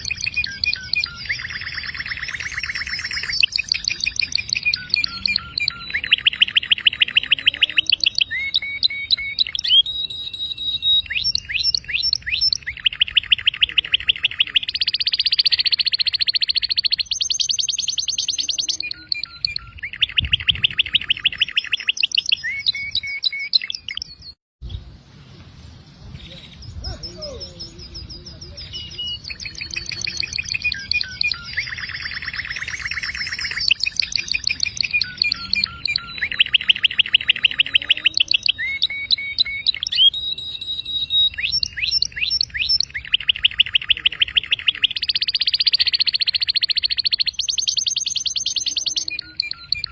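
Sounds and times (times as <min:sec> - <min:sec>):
canary singing trills: 0:00.0 - 0:24.8, 0:26.2 - 0:49.9.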